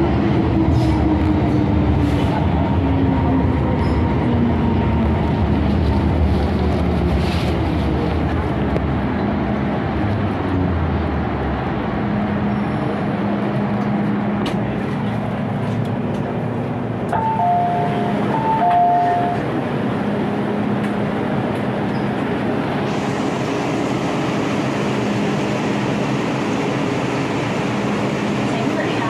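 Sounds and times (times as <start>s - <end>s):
metro train rumbling: 0.0s - 29.0s.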